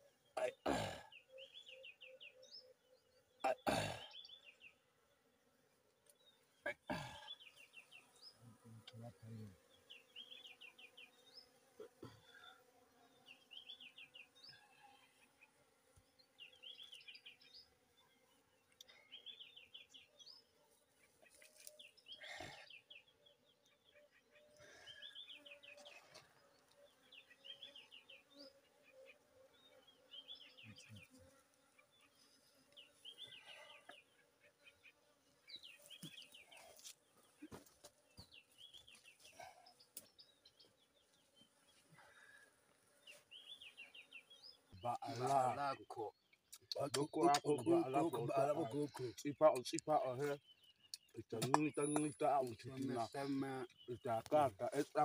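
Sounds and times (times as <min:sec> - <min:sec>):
bird chirping: 0:01.1 - 0:04.8, 0:07.0 - 0:11.6, 0:13.1 - 0:14.6, 0:16.2 - 0:17.7, 0:18.8 - 0:41.8, 0:43.0 - 0:55.0.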